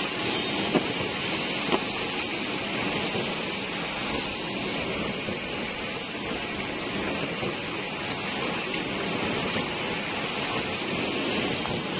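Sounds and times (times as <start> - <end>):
factory machinery hissing: 0.0 - 11.9.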